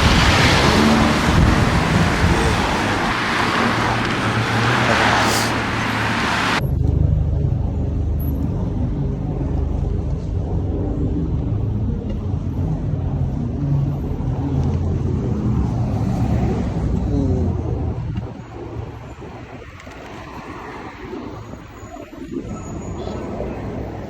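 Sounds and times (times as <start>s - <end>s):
low rumble of road traffic: 0.0s - 24.0s
wind rushing over microphone: 0.0s - 24.0s.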